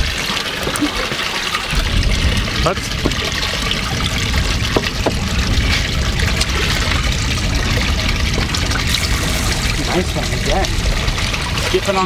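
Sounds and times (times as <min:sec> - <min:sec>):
water lapping around boat: 0:00.0 - 0:12.0
steady low rumble: 0:01.7 - 0:12.0.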